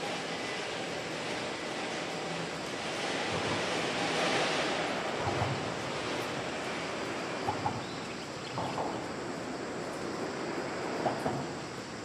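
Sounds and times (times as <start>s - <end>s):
distant electric train running: 0.0s - 12.0s.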